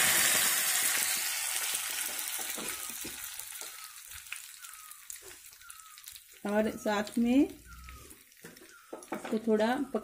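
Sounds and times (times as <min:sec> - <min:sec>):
leaves sizzling in hot oil: 0:00.0 - 0:10.0.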